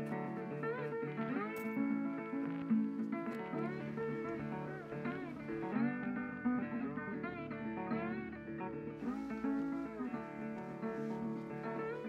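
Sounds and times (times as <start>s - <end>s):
sliding guitar music: 0.0s - 12.0s.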